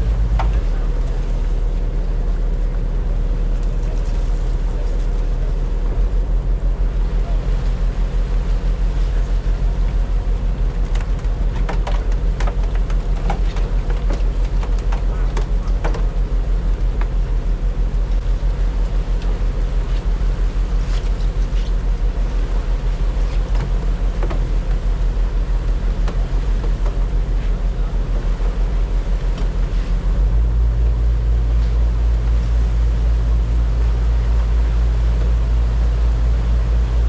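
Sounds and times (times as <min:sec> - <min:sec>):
boat engine drone: 0:00.0 - 0:37.0
water noise: 0:00.0 - 0:37.0
wind: 0:00.0 - 0:37.0.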